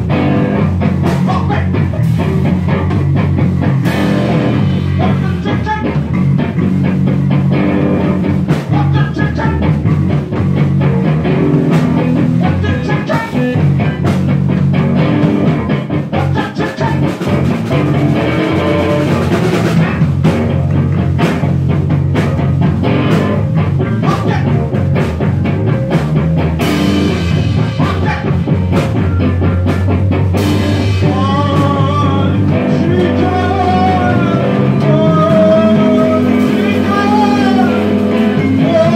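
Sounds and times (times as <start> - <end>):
electric guitar: 0.0 - 38.9
heavy electric bass line: 0.0 - 38.9.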